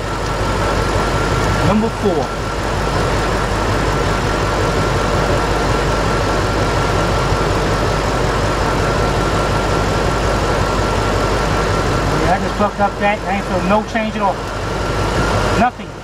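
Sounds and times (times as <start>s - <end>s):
engine idling rough: 0.0s - 16.0s.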